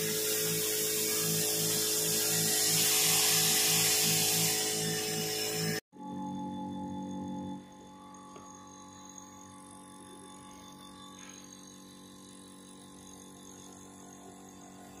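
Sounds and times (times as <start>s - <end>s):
compressor pump humming: 0.0s - 15.0s.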